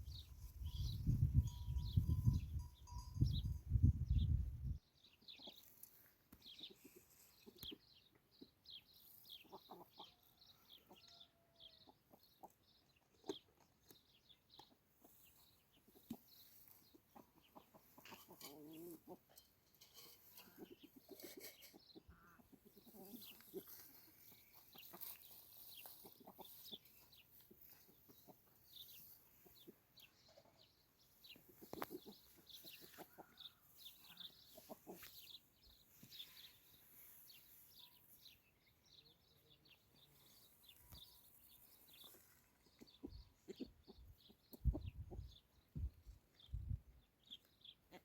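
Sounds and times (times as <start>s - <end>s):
faint bird chirps and clucks: 0.0s - 48.0s.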